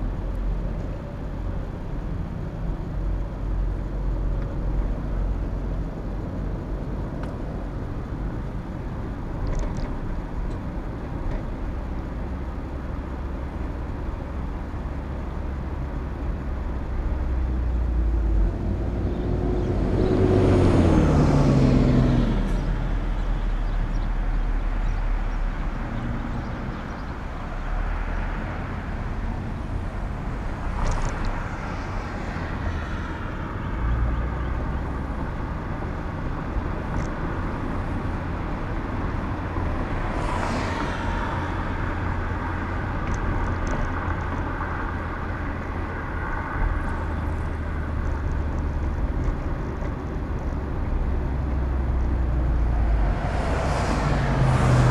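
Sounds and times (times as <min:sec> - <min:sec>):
passing traffic whooshes: 0:00.0 - 0:54.9
tyre and engine rumble: 0:00.0 - 0:54.9.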